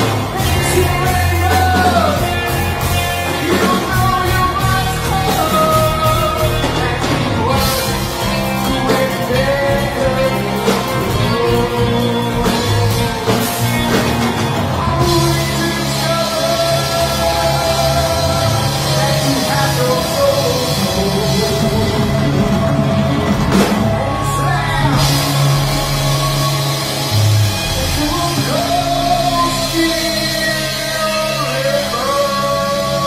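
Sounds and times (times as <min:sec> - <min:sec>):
bass: 0:00.0 - 0:33.0
distorted electric guitars: 0:00.0 - 0:33.0
drums: 0:00.0 - 0:33.0
keyboards: 0:00.0 - 0:33.0
man singing: 0:00.0 - 0:33.0.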